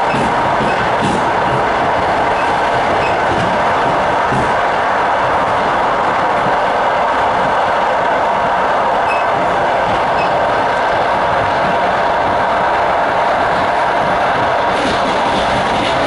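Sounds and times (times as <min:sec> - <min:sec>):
train carriage rumbling on track: 0:00.0 - 0:16.0.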